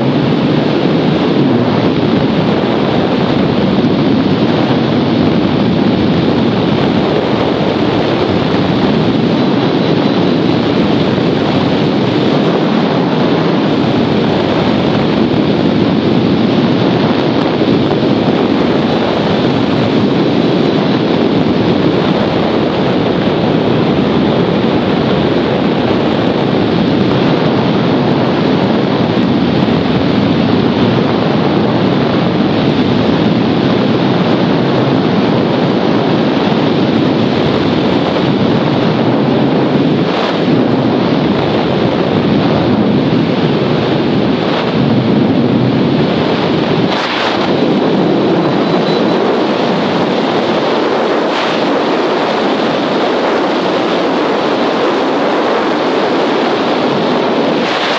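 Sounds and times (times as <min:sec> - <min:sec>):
wind rushing over microphone: 0:00.0 - 0:57.9.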